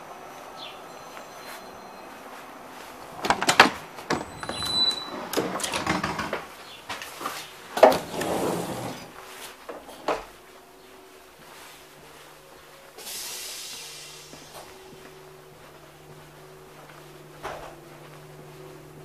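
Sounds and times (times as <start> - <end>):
low hum inside train coach: 0.0 - 5.8, 6.4 - 19.0
footsteps: 0.0 - 19.0.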